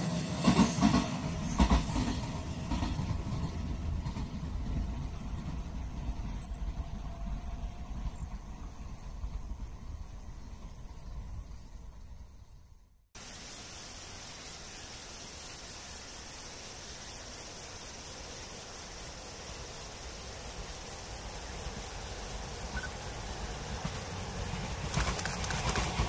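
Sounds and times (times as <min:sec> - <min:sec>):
approaching train: 0:00.0 - 0:26.0
insects chirping: 0:00.4 - 0:26.0.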